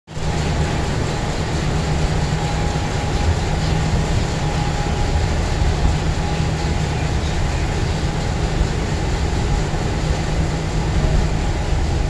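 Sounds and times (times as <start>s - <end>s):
faint steady whine: 0.1s - 12.0s
train rumbling on track: 0.1s - 12.0s.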